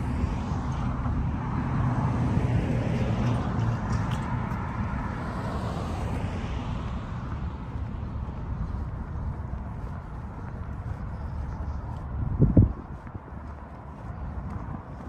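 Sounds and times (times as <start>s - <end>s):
traffic rumble: 0.0s - 15.0s
vehicle passing: 0.0s - 15.0s.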